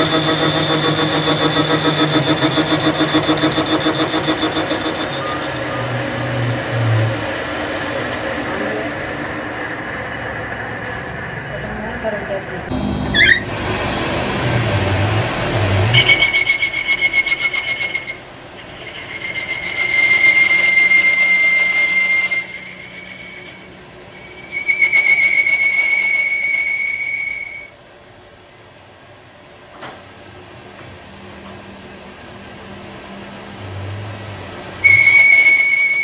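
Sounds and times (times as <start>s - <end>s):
high-pitched mechanical whine: 0.0s - 27.8s, 32.4s - 36.0s.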